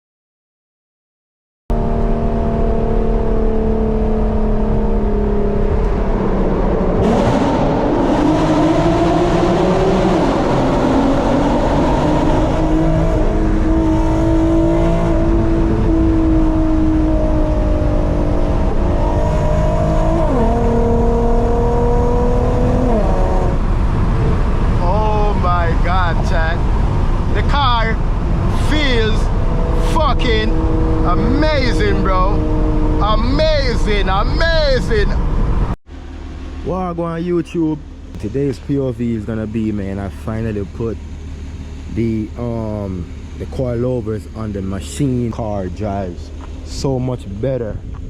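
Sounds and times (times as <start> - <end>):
car engine under load: 1.7 - 48.0
road and wind hiss: 4.2 - 48.0.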